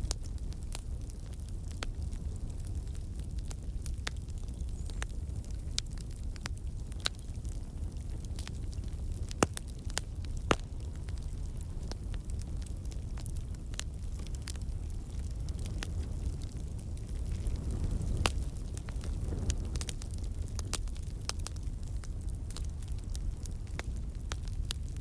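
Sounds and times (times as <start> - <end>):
campfire flame rumble: 0.0 - 25.0
logs crackling and popping: 0.0 - 25.0.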